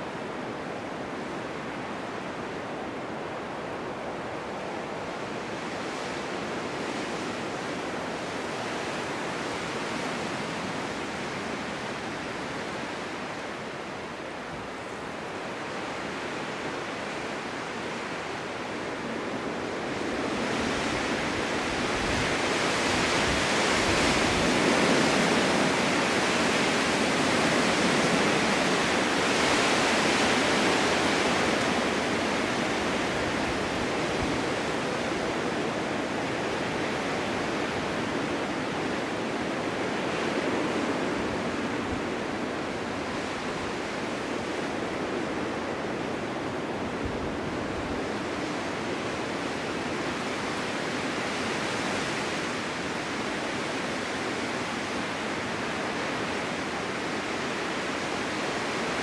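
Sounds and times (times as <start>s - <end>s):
wind blowing in a snowstorm: 0.0s - 59.0s.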